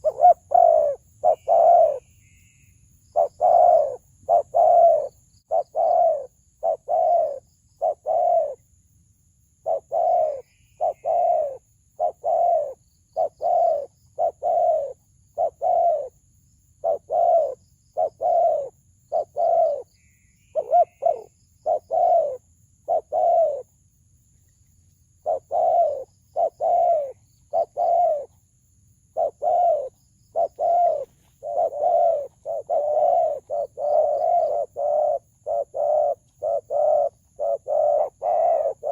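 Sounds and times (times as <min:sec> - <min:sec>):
dove cooing: 0:00.0 - 0:02.1, 0:03.1 - 0:08.6, 0:09.6 - 0:16.2, 0:16.8 - 0:19.9, 0:20.5 - 0:23.7, 0:25.2 - 0:28.4, 0:29.1 - 0:38.9.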